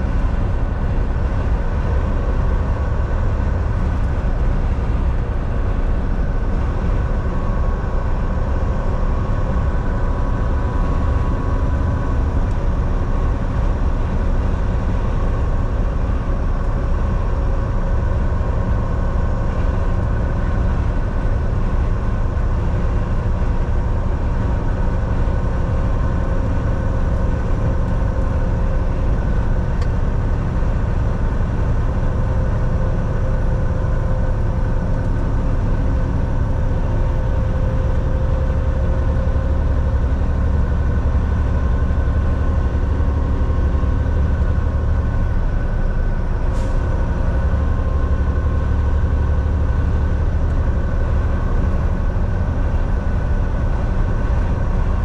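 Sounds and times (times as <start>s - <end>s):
constant drone: 0.0s - 55.0s
truck engine and road rumble: 0.0s - 55.0s.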